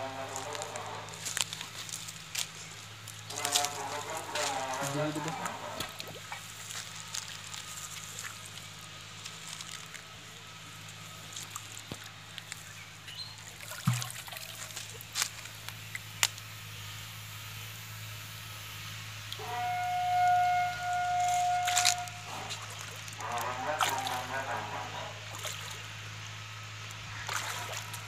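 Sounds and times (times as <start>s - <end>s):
water sloshing and trickling: 0.0s - 16.5s, 19.3s - 28.0s.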